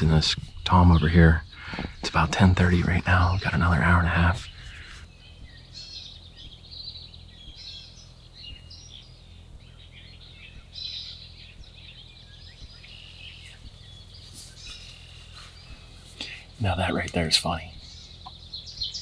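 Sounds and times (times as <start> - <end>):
low background rumble: 0.0 - 19.0
songbirds chirping: 0.0 - 19.0.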